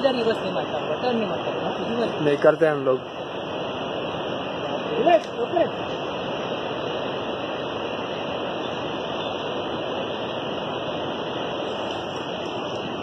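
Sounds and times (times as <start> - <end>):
steady rushing outdoor noise: 0.0 - 13.0.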